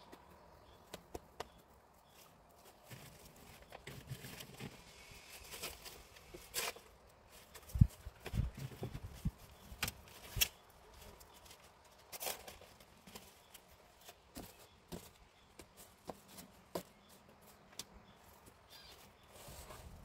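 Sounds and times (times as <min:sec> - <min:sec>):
cardboard rustling: 0:02.2 - 0:20.0.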